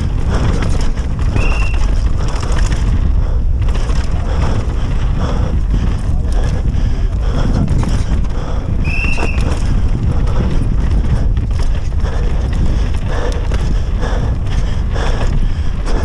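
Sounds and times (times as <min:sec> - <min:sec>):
tyres crunching over dirt: 0:00.0 - 0:13.9
bike rattling: 0:00.0 - 0:16.0
wind buffeting microphone: 0:00.0 - 0:16.0.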